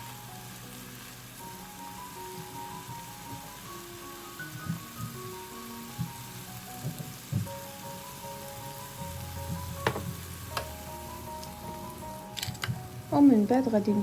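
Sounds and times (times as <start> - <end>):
food sizzling in a pan: 0.0 - 14.0
soft background music: 0.0 - 14.0.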